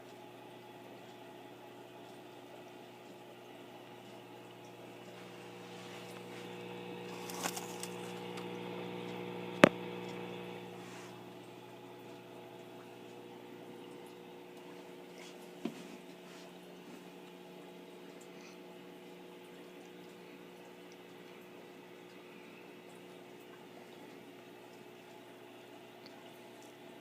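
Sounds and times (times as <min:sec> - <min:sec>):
electrical hum: 0:00.0 - 0:27.0
moving water: 0:00.1 - 0:27.0.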